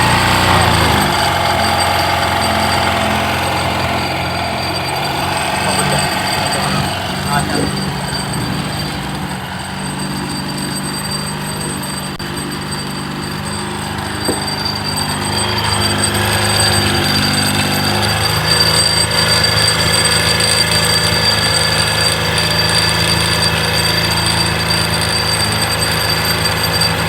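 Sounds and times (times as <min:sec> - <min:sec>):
metallic jingling rattle: 0:00.0 - 0:27.0
scooter engine revving: 0:00.0 - 0:27.0.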